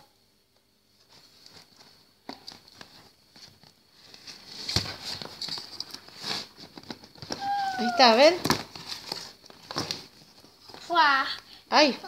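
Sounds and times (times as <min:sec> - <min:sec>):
hands handling cardboard box: 0:01.0 - 0:10.9.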